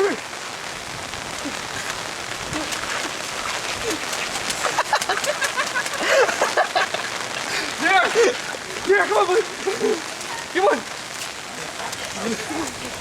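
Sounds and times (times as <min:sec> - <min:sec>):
rain falling: 0:00.0 - 0:13.0
raindrops ticking: 0:00.0 - 0:13.0.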